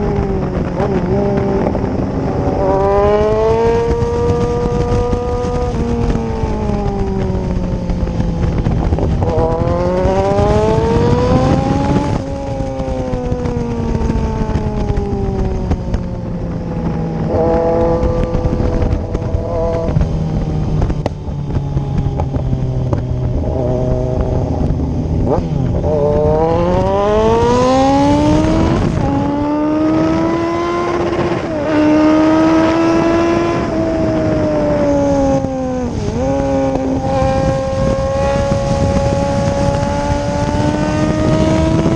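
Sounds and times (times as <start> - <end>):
motorcycle engine revving: 0.0 - 41.9
wind rush on microphone: 0.0 - 41.9.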